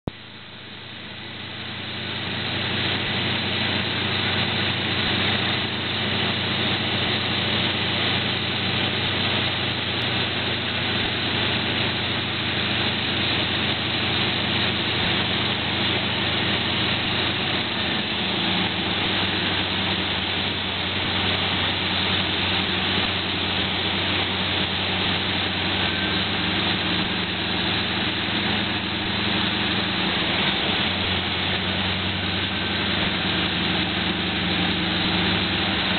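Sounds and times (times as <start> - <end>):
propeller aircraft engine running: 0.0 - 35.9.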